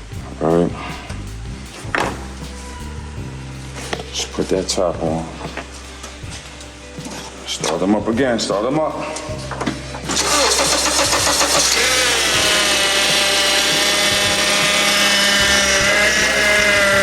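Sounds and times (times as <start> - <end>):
car engine starting and running: 0.0 - 17.0
power steering pump whining: 0.0 - 17.0.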